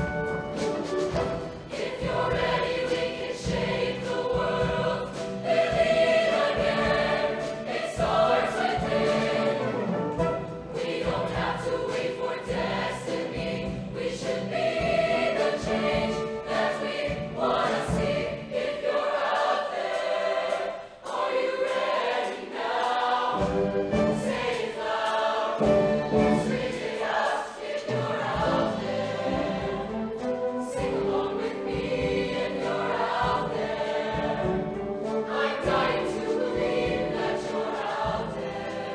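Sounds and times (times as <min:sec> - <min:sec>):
choir singing: 0:00.0 - 0:38.9
musical accompaniment: 0:00.0 - 0:38.9.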